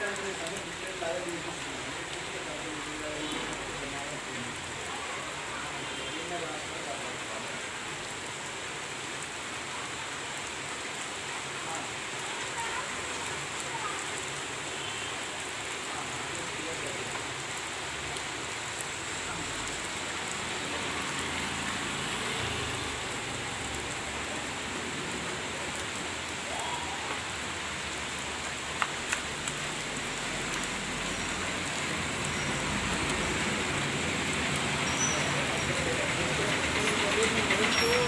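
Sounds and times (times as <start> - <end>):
heavy rain on a wet street: 0.0 - 38.0.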